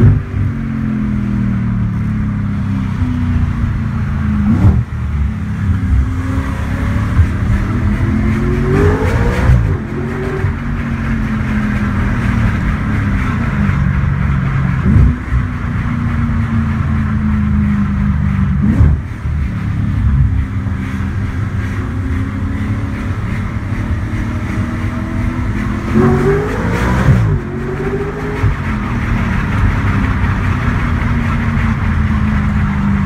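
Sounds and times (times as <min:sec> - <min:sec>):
car exhaust drone from inside: 0:00.0 - 0:33.0.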